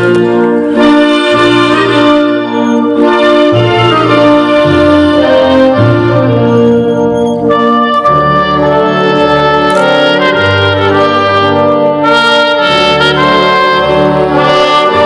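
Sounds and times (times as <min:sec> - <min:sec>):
brass band playing chords: 0:00.0 - 0:15.0.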